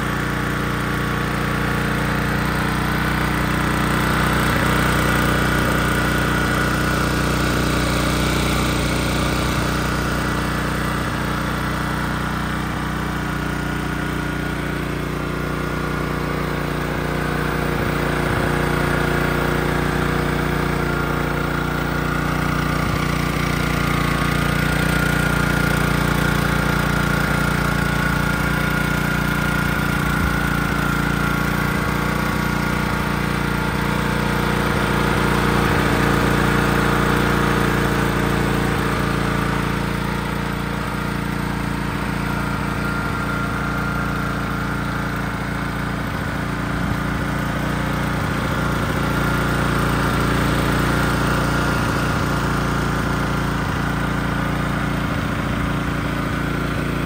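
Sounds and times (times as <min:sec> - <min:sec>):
portable generator running: 0:00.0 - 0:57.0.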